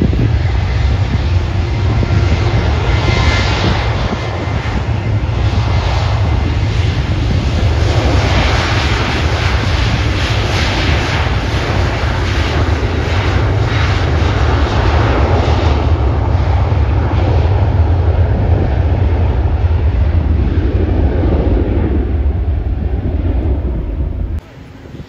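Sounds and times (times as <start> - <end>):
jet engines roaring on takeoff: 0.0 - 25.0.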